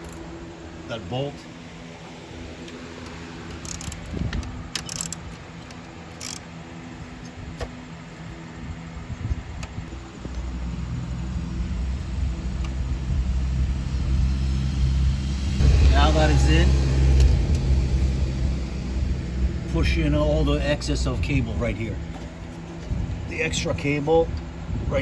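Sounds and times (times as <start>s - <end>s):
deep engine rumble: 0.0s - 25.0s
vehicle engine humming: 0.0s - 25.0s.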